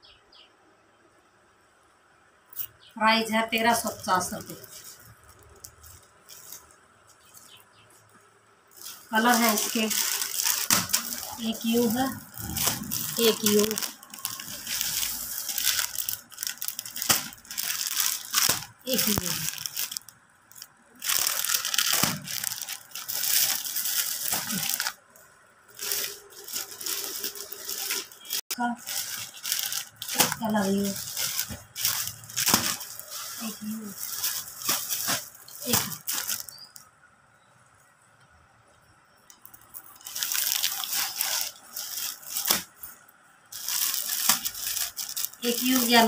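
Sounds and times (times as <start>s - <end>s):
plastic packaging crinkling: 3.5s - 36.9s, 39.3s - 46.0s.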